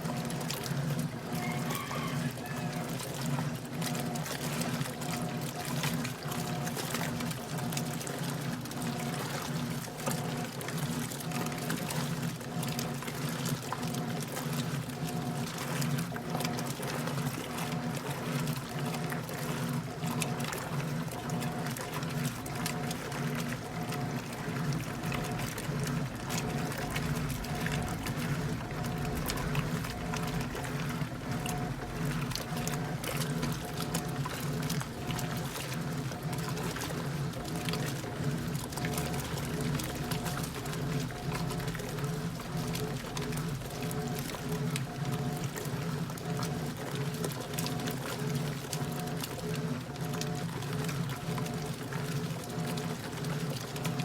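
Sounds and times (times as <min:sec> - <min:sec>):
washing machine motor hum: 0:00.0 - 0:54.0
water sloshing in tub: 0:00.0 - 0:54.0.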